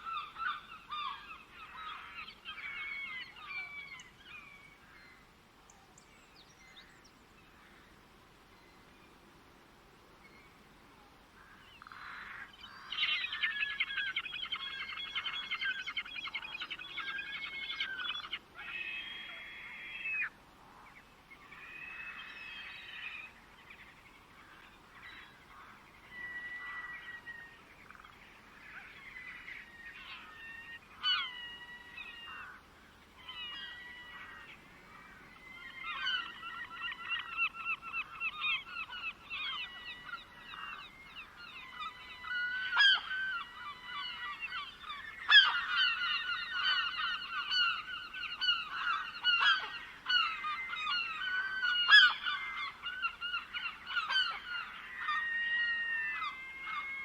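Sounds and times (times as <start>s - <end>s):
wild birds calling and singing: 0.0s - 8.9s, 11.4s - 57.0s.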